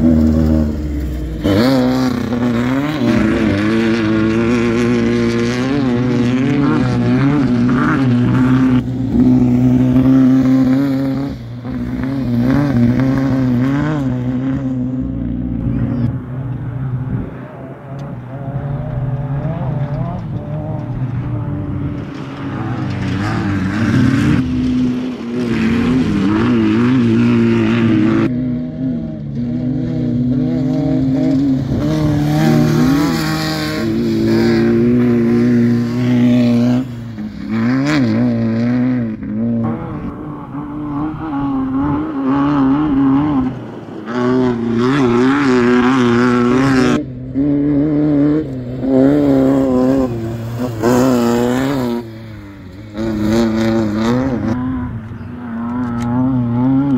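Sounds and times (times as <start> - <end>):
off-road race car engines revving: 0.0 - 56.9.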